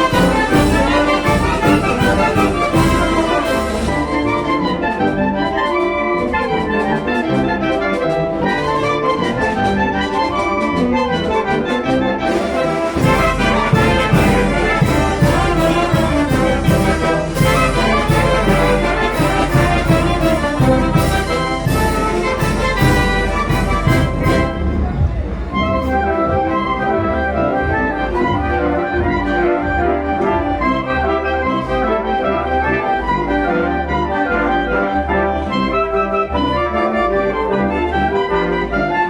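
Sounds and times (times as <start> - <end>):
pulsing low brass part: 0.0 - 33.5
brass band playing: 0.0 - 39.0.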